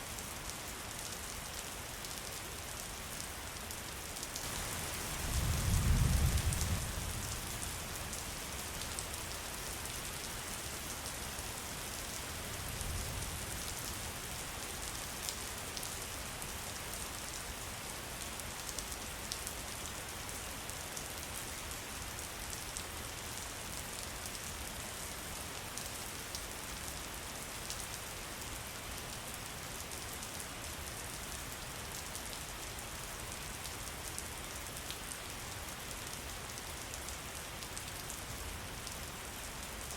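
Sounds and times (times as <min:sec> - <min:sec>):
steady rain drops ticking: 0:00.0 - 0:39.9.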